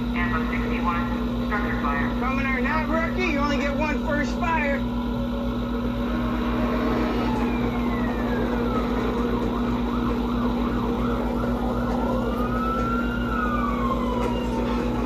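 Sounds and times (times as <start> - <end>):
low engine drone: 0.0 - 15.0
fire engine siren wailing and yelping: 0.8 - 15.0.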